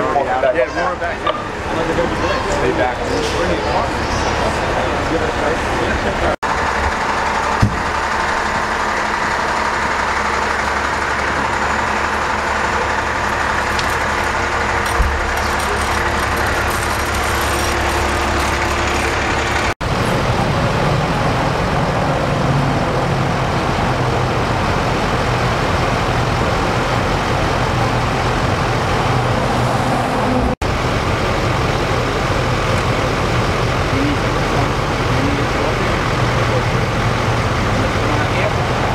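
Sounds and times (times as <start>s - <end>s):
diesel engines droning: 0.0s - 38.9s
street noise: 0.0s - 38.9s.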